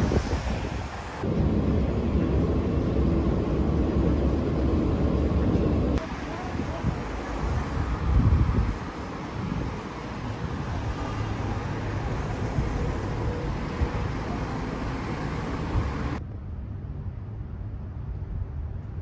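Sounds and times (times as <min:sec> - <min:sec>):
cars going by: 0:00.0 - 0:16.2.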